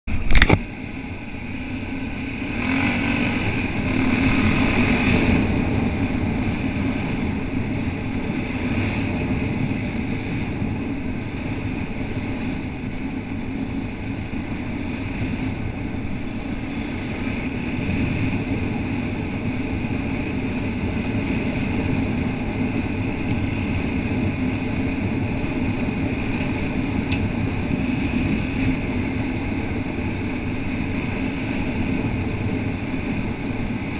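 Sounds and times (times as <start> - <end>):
gravel road noise: 0.0 - 33.9
wind: 0.0 - 33.9
motorcycle engine running: 0.1 - 33.9.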